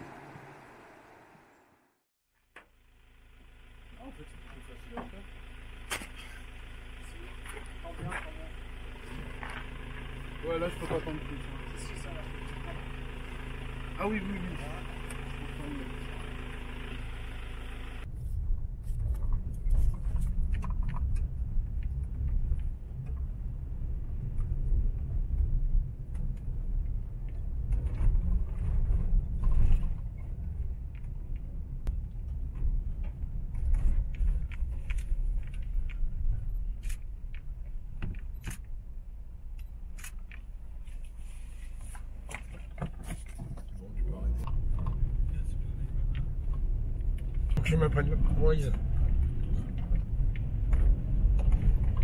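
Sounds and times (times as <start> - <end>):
vehicle ride rumble: 0.0 - 52.0.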